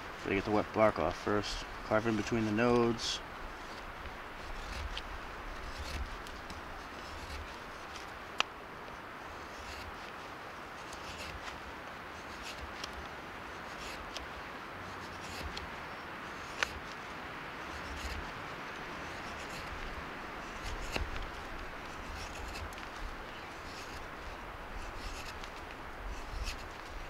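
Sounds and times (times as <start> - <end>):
knife scraping twig: 0.1 - 8.5, 9.2 - 27.0.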